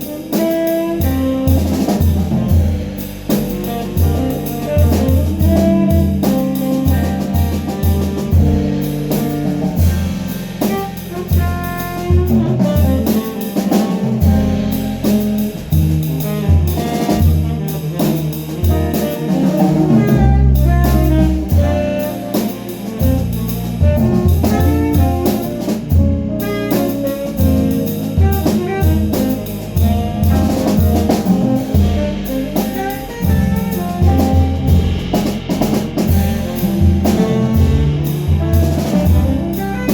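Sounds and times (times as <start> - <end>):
bass line: 0.0 - 39.9
drum kit: 0.0 - 39.9
jazz band playing: 0.0 - 39.9.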